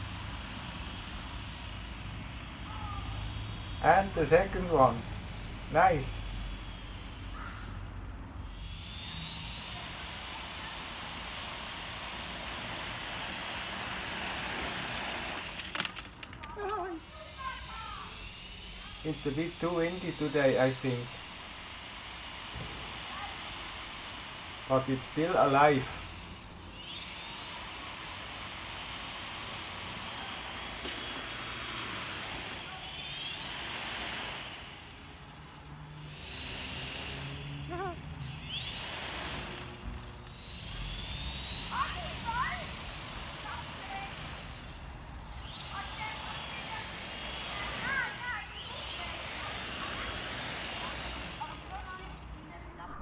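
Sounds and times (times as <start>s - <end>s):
rc helicopter rotor whine: 0.0s - 53.0s.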